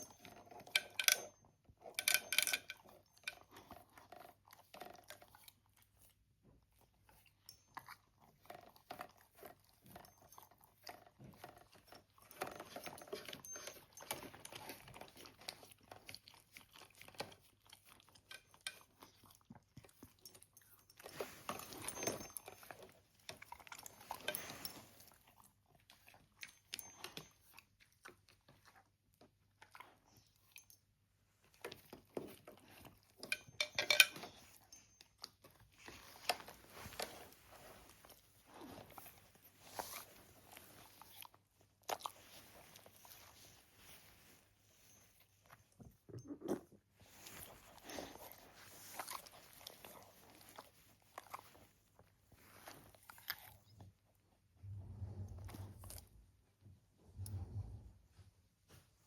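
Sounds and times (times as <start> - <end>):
pet chewing and crunching food: 0.0 - 57.8.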